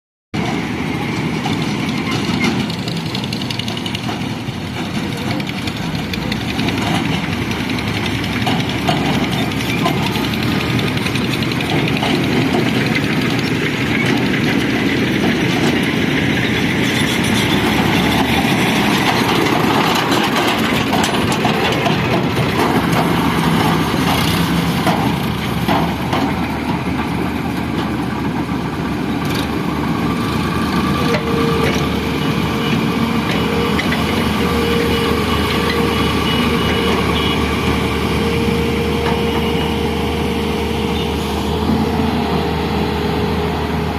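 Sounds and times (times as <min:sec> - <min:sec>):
excavator diesel engine running: 0:00.4 - 0:43.9.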